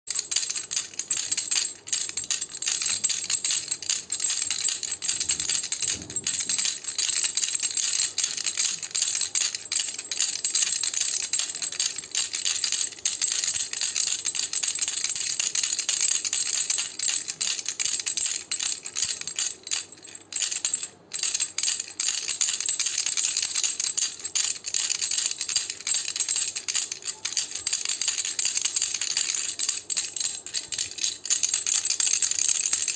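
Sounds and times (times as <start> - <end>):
baby rattle shaken: 0.1 - 32.9.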